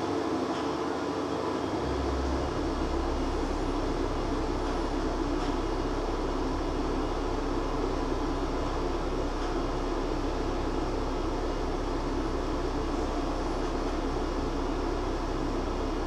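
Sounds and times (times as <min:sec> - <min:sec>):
hydraulic lift machinery humming: 0:01.6 - 0:16.0.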